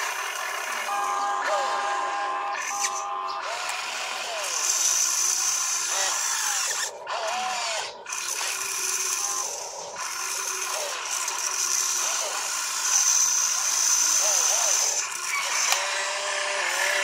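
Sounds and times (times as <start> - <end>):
toy excavator motors whining: 0.0 - 17.0.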